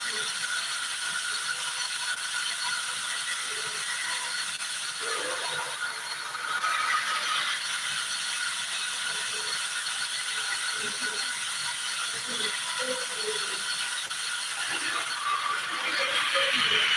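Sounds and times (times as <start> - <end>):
sawing machine whirring: 0.0 - 16.9.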